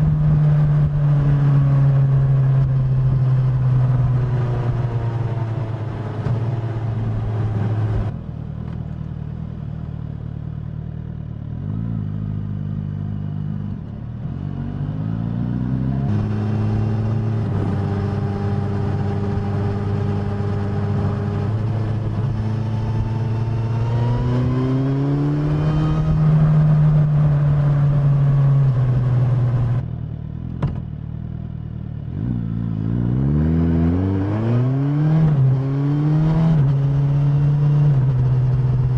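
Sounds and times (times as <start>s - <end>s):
motorcycle engine accelerating: 0.0s - 8.4s, 11.0s - 38.9s.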